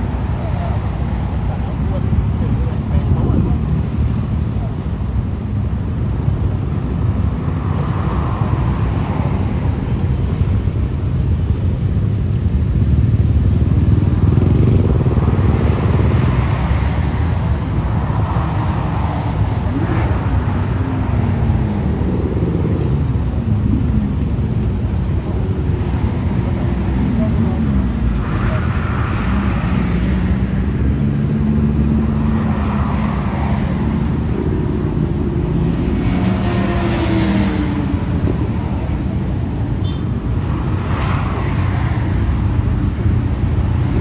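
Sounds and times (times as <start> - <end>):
highway traffic rumble: 0.0 - 44.0
motorcycle engines revving: 0.0 - 44.0.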